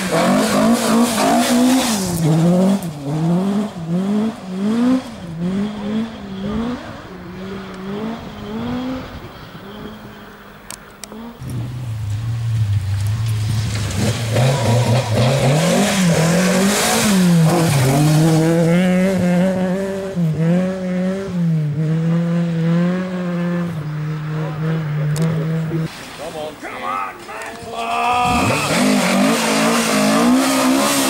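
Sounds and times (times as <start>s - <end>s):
rally car engine at full throttle: 0.0s - 26.2s, 28.1s - 31.0s.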